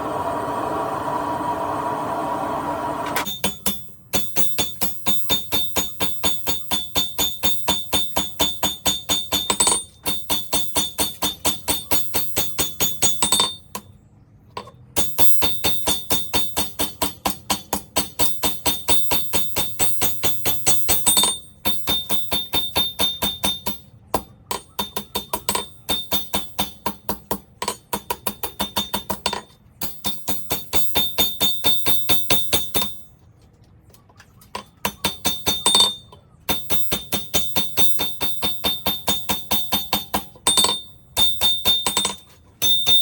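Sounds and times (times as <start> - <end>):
hammer striking steel on anvil: 3.2 - 13.9, 14.6 - 33.1, 34.6 - 43.0.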